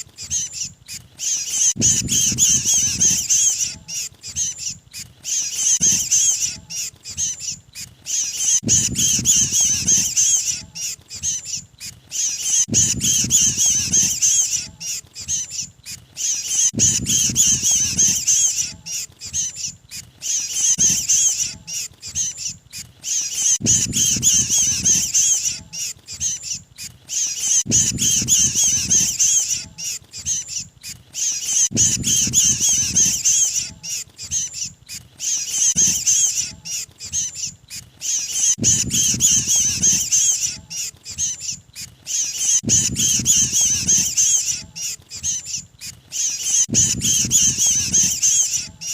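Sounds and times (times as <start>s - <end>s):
bird distress calls: 0.0s - 48.9s.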